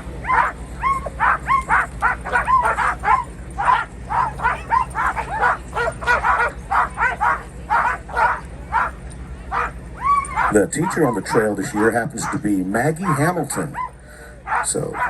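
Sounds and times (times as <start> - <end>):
dogs barking and yipping: 0.0 - 15.0
dog yelps: 0.2 - 15.0.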